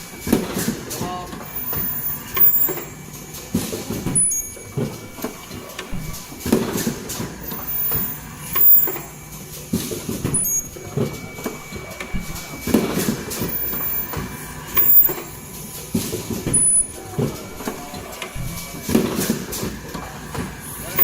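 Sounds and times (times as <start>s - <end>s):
machine mechanical clatter: 0.0s - 21.0s.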